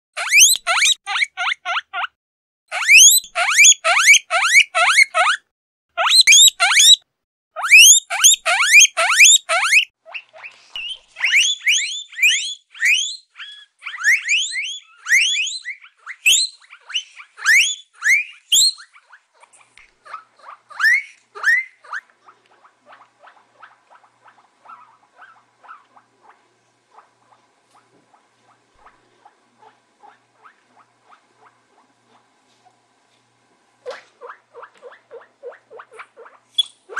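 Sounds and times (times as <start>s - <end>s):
guinea pig short pulsed calls: 0.2s - 2.1s, 2.7s - 5.4s, 6.0s - 7.0s, 7.6s - 32.2s, 33.9s - 36.9s
guinea pig wheeking: 0.2s - 32.3s, 33.8s - 36.9s.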